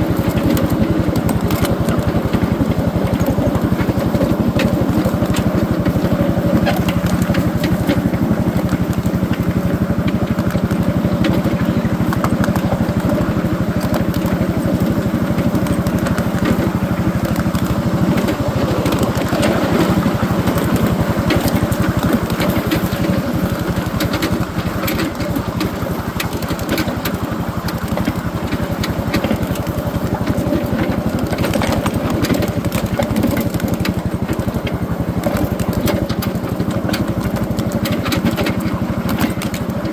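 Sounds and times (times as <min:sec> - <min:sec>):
small engine running: 0:00.0 - 0:39.9
train cars clicking and rattling: 0:00.0 - 0:39.9.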